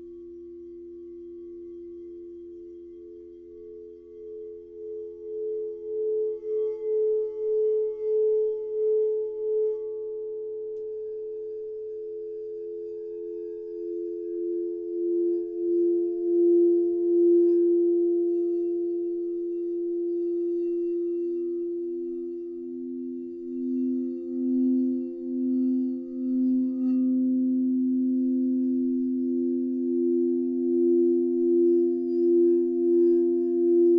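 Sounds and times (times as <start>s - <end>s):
singing bowls ringing: 0.0s - 33.9s.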